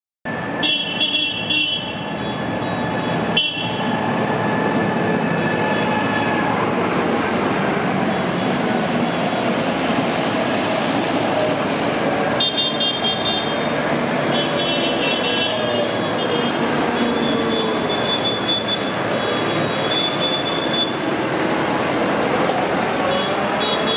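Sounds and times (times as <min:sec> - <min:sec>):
tractor engines running: 0:01.9 - 0:23.9.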